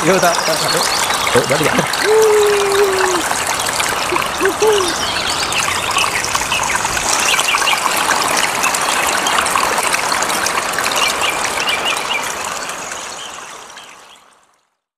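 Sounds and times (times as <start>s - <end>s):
rushing like running water: 0.0s - 14.7s.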